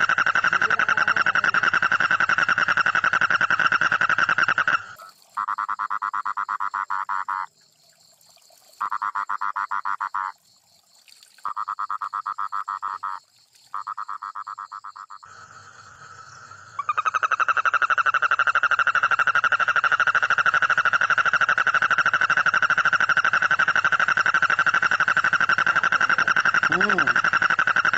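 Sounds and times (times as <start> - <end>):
toad trilling: 0.0 - 7.6, 8.8 - 10.4, 11.4 - 27.9.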